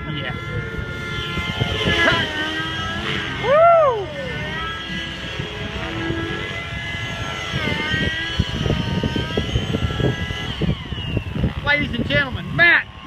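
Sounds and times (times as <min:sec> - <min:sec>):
low rumbling: 0:00.0 - 0:13.0
model helicopter engine whine: 0:00.0 - 0:13.0.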